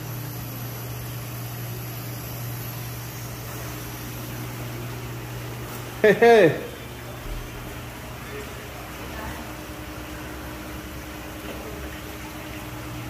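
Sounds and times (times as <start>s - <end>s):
equipment humming and hissing: 0.0s - 13.0s.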